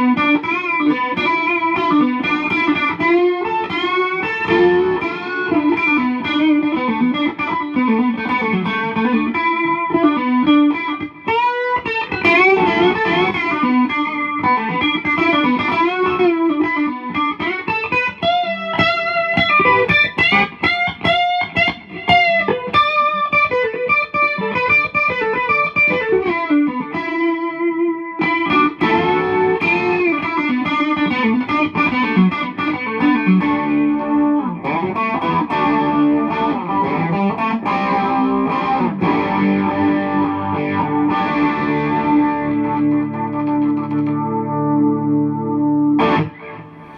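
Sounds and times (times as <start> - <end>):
electric guitar lead lines: 0.0 - 46.9.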